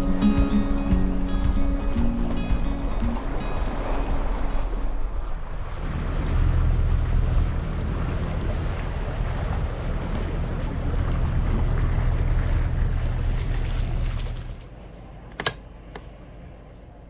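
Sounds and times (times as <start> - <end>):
water moving along hulls: 0.0 - 15.2
boat engine drone: 0.0 - 17.0.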